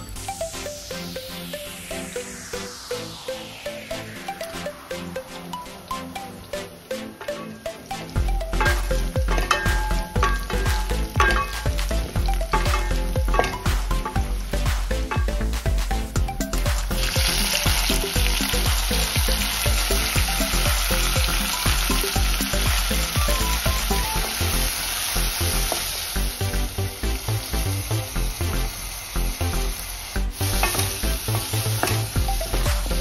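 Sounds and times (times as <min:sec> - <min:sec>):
background music with steady beat: 0:00.0 - 0:33.0
tomatoes sizzling in hot oil: 0:04.3 - 0:33.0.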